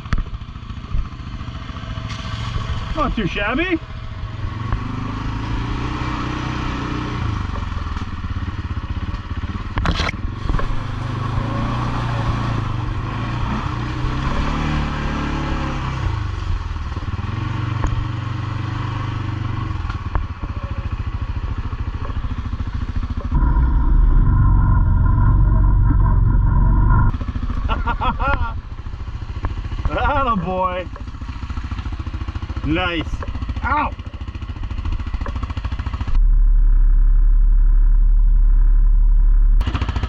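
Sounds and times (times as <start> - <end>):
atv engine revving: 0.0 - 36.2, 39.6 - 40.0.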